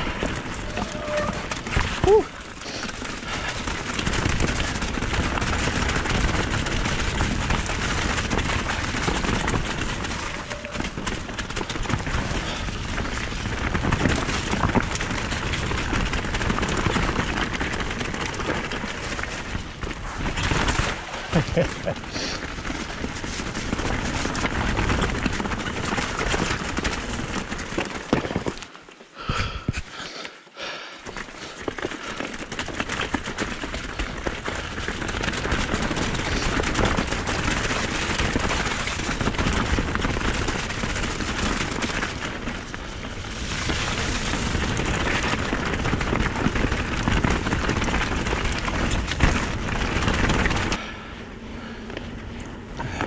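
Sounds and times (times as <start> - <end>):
mountain bike rattling over rocks: 0.0 - 53.0.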